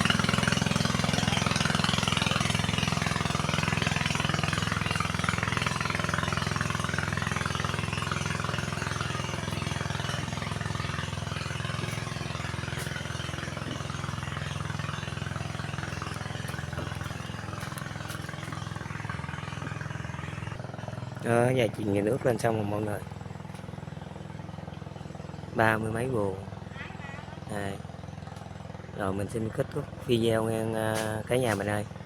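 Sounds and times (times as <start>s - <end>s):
small engine pulsing: 0.0s - 32.0s.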